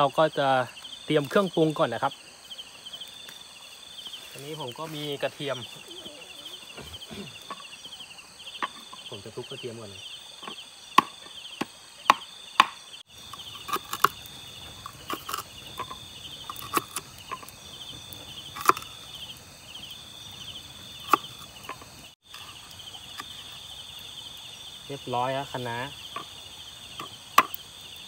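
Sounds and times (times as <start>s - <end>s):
pulsing insect chorus: 0.0s - 28.0s.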